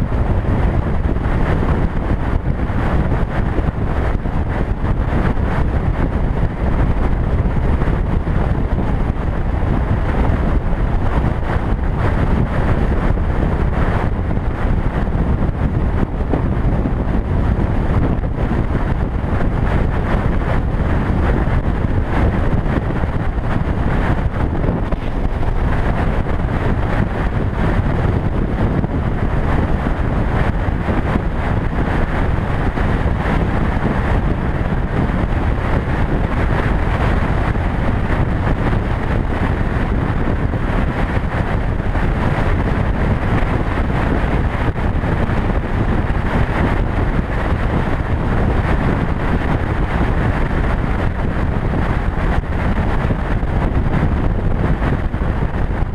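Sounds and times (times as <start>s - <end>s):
road noise: 0.0s - 55.9s
wind buffeting microphone: 0.0s - 55.9s.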